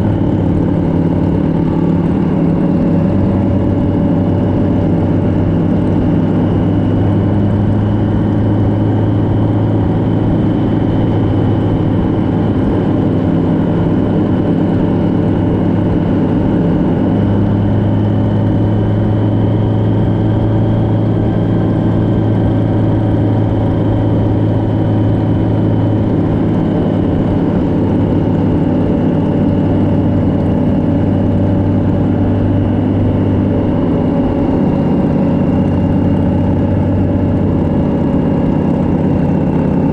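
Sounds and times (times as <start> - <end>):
engine drone at cruise: 0.0 - 39.9.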